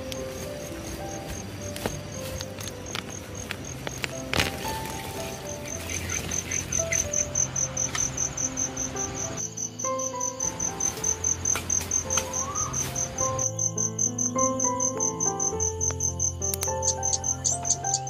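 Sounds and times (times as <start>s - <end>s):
cricket chirping: 0.0s - 18.0s
soft background music: 0.0s - 18.0s.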